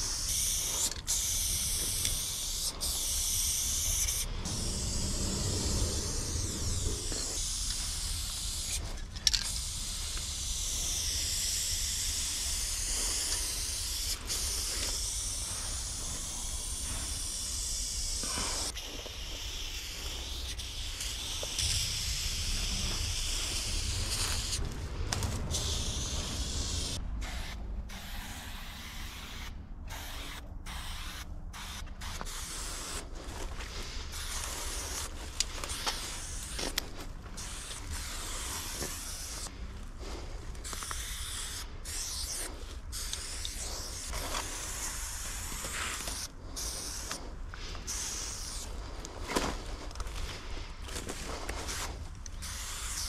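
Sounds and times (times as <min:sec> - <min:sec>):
spray paint can hissing: 0:00.0 - 0:49.0, 0:51.2 - 0:53.0
steady low rumble: 0:00.0 - 0:52.8.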